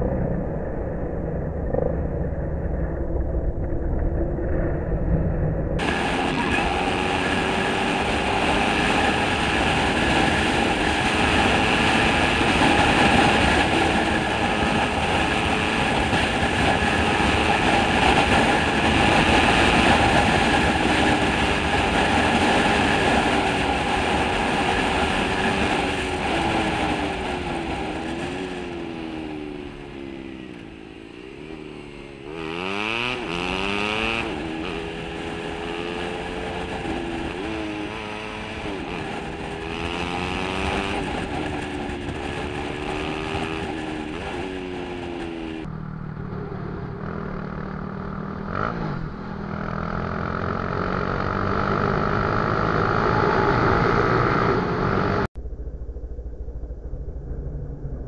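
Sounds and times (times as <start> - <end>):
wind rushing over microphone: 0.0 - 30.5, 31.1 - 58.0
scooter engine running: 5.8 - 55.3.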